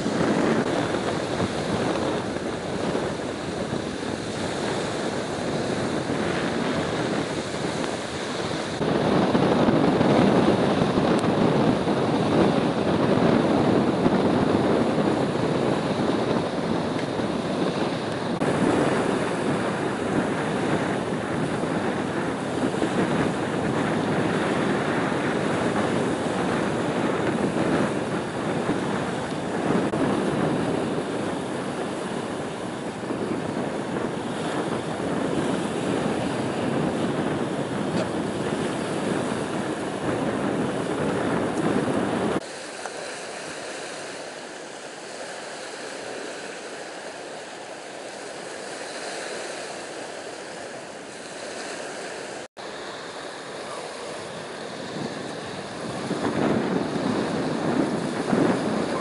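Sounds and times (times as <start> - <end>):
choppy water: 0.0 - 59.0
wind blowing on microphone: 0.0 - 59.0.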